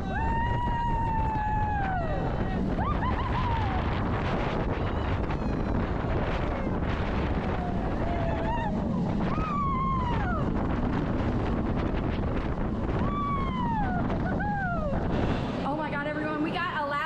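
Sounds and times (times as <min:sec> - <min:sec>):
riders whooping screams: 0:00.0 - 0:11.3, 0:12.7 - 0:15.1
wind rushing over microphone: 0:00.0 - 0:17.0.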